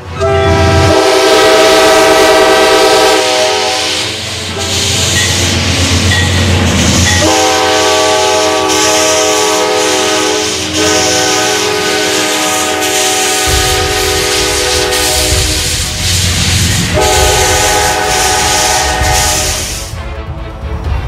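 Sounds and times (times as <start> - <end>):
locomotive air horn: 0.0 - 5.4, 7.0 - 19.9
passing train rumble: 0.0 - 21.0.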